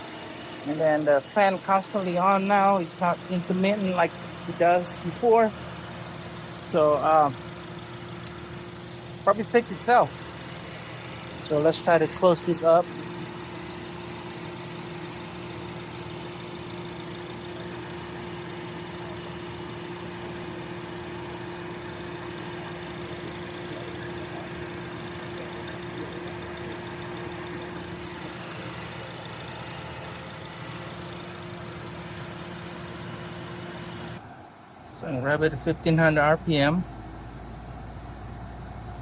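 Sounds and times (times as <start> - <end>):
radiator cooling fan humming: 0.0 - 38.2
car engine idling: 0.0 - 39.0.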